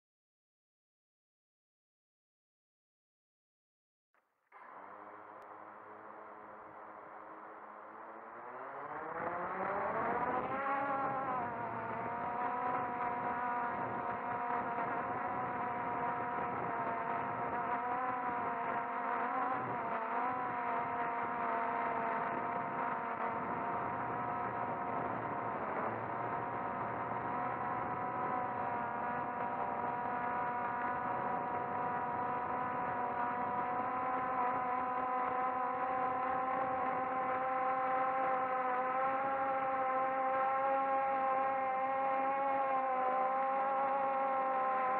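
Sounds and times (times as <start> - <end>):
drone motors whining: 5.1 - 44.9.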